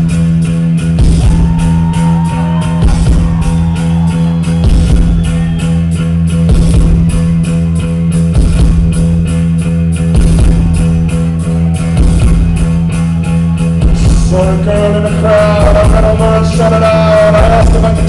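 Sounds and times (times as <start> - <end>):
bass drone: 0.0 - 18.0.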